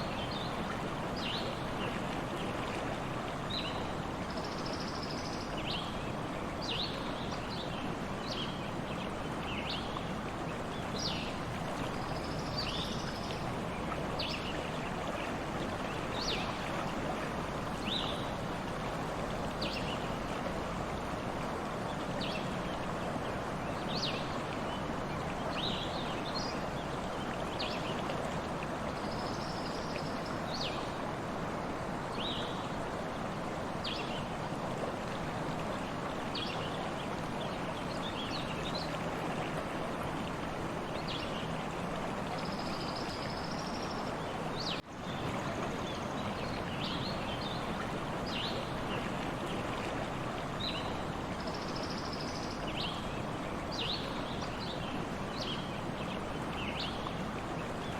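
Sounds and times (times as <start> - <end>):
stream water flowing: 0.0 - 57.9.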